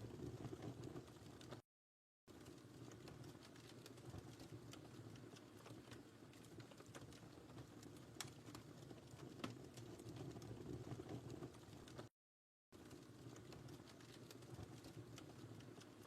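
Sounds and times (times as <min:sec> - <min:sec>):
wood fire crackling and popping: 0:00.0 - 0:01.6, 0:02.3 - 0:12.1, 0:12.8 - 0:16.0.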